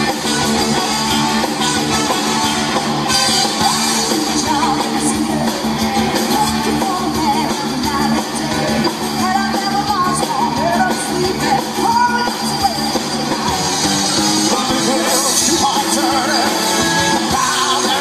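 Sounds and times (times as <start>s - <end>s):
soul and funk band playing: 0.0s - 18.0s
person singing: 3.4s - 18.0s.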